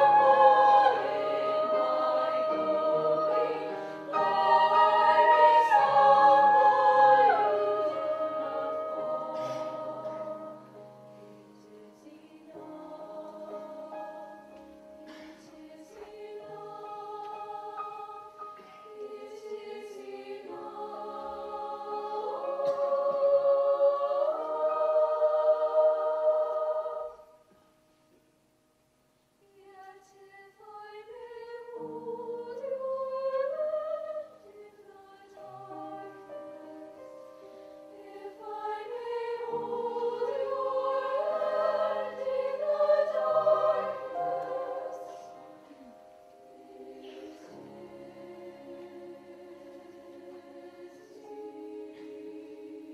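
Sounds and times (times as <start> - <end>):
piano accompaniment: 0.0 - 26.8, 34.9 - 52.9
female choir singing: 0.0 - 27.4, 29.5 - 52.9.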